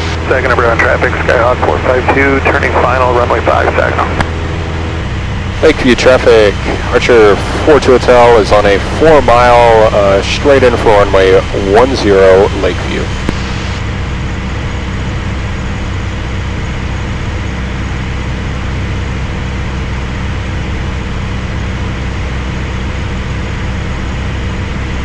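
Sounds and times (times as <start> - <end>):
airplane engine and propeller drone: 0.0 - 25.0.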